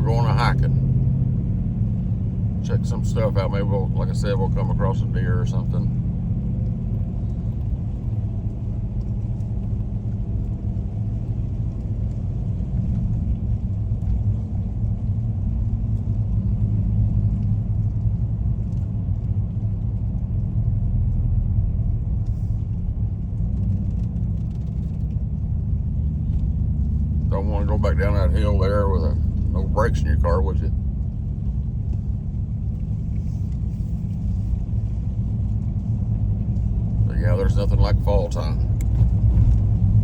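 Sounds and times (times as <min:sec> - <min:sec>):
car engine hum: 0:00.0 - 0:40.0
road noise inside car: 0:00.0 - 0:40.0.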